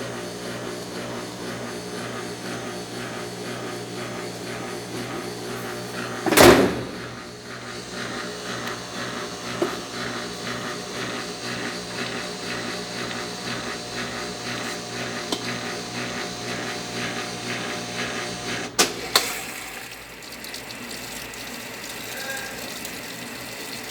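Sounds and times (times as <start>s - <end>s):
washing machine running: 0.0s - 23.9s.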